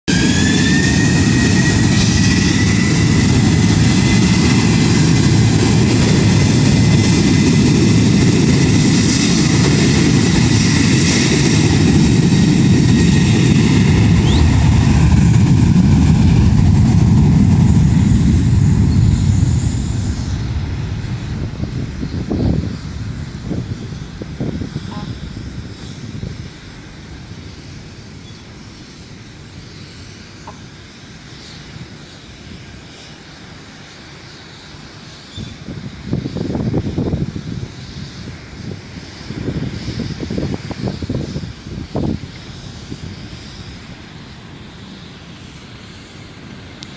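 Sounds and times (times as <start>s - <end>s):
jet airliner taking off: 0.1s - 46.9s.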